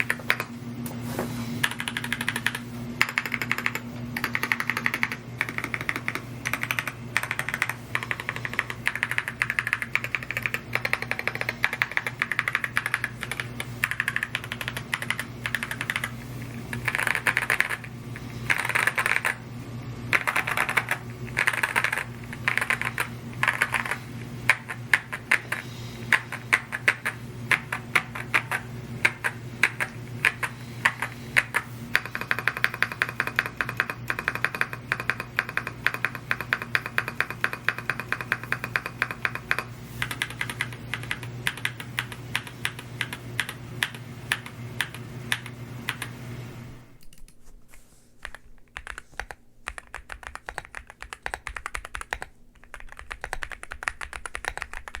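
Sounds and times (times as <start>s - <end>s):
fast mechanical keyboard typing: 0.0s - 0.5s, 1.6s - 19.4s, 20.1s - 46.2s, 48.2s - 55.0s
low steady hum: 0.0s - 55.0s.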